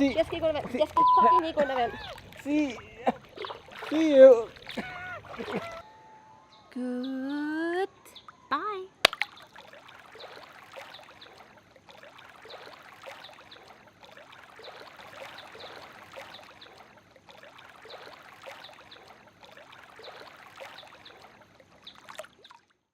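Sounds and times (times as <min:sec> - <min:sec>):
water trickling and gurgling: 0:00.0 - 0:05.8, 0:09.0 - 0:22.9.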